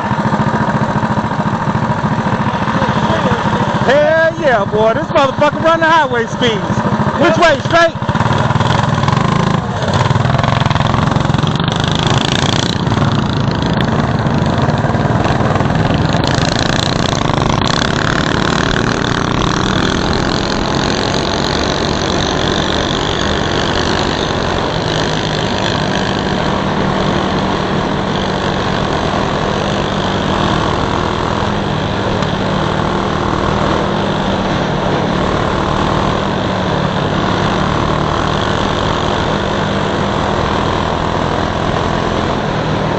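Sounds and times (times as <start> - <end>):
mini bike engine running: 0.0 - 42.9.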